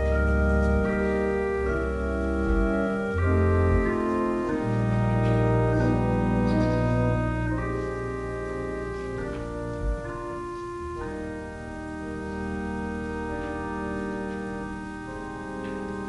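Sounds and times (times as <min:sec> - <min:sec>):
church organ chords: 0:00.0 - 0:16.0.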